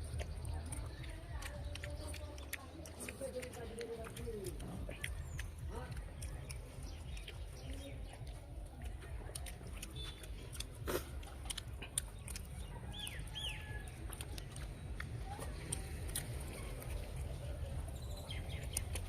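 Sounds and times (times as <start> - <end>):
people eating by hand: 0.0 - 19.0.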